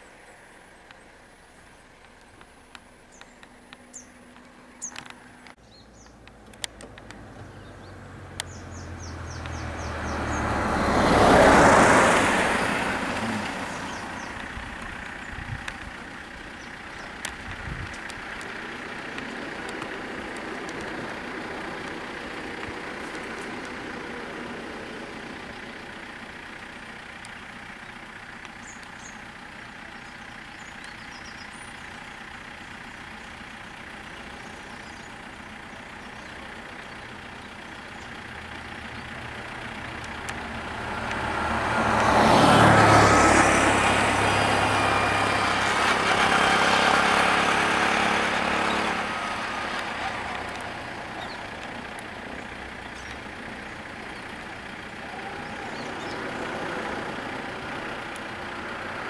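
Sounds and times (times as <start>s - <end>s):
diesel engines idling: 0.0s - 59.0s
engine and road noise: 0.0s - 59.0s.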